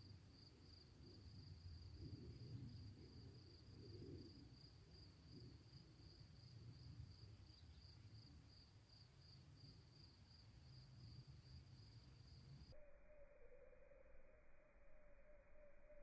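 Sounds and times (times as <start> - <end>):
faint insect chirping: 0.0 - 16.0.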